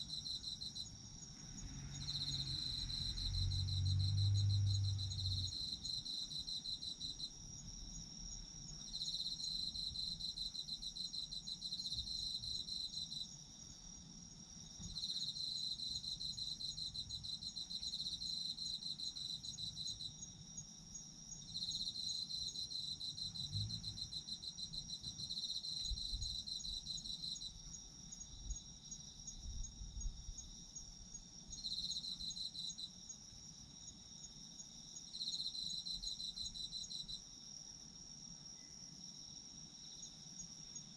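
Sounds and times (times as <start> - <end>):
high pulsing insect trill: 0.0 - 40.9.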